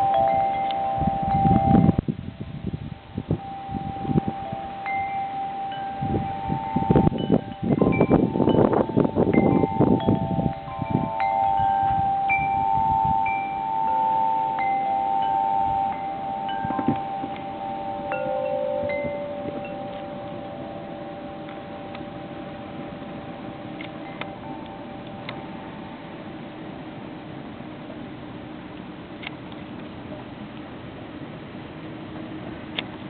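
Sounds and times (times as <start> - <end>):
wind chimes ringing: 0.0 - 27.8
wind buffeting microphone: 0.0 - 28.6.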